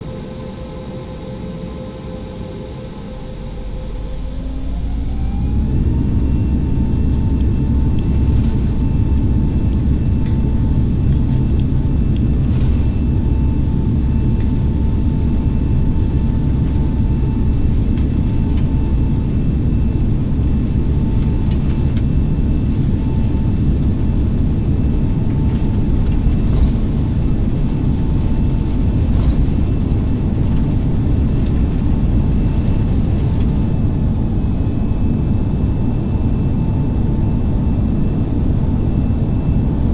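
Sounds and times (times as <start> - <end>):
airplane cabin rumble: 0.0 - 39.9
jet engine whine: 0.0 - 39.9.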